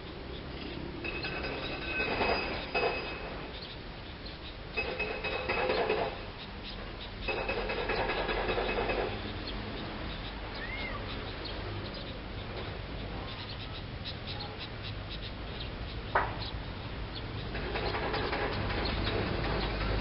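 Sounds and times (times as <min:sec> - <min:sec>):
steady outdoor hiss: 0:00.0 - 0:20.0
wild birds chirping: 0:00.0 - 0:20.0.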